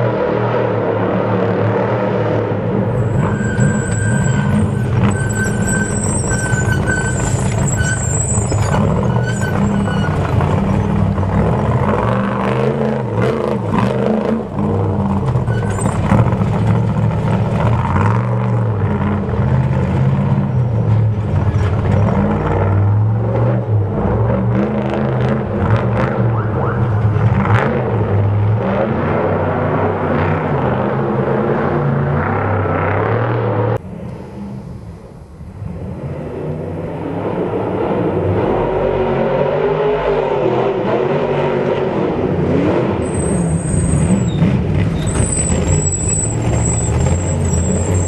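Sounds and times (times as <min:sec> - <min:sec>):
truck engine revving: 0:00.0 - 0:33.8, 0:35.6 - 0:48.0.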